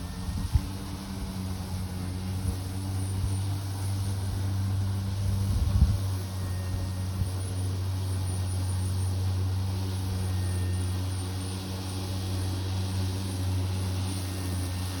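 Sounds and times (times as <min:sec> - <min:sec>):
electric lawn mower humming: 0:00.0 - 0:15.0.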